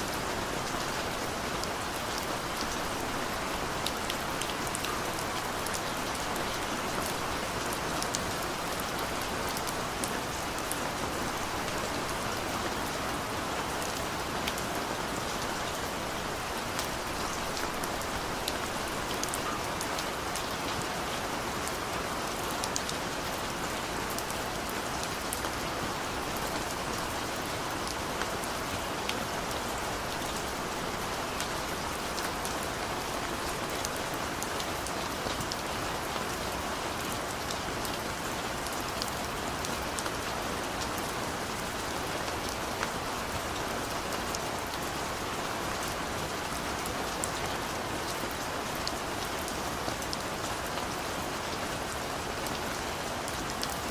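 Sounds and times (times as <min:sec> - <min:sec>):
rain falling on a surface: 0:00.0 - 0:53.9.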